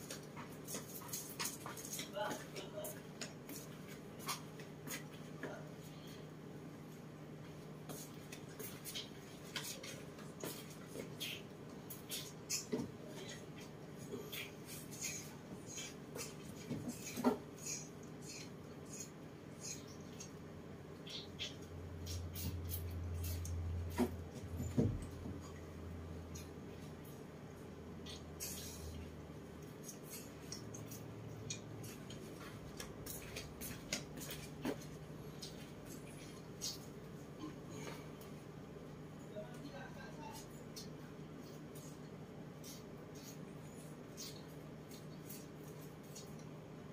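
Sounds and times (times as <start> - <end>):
low steady room hum: 0.0 - 46.9.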